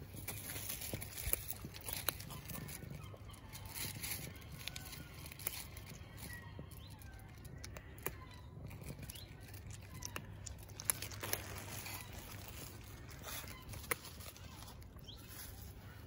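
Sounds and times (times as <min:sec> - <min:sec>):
cat crunching dry kibble: 0:00.0 - 0:16.0.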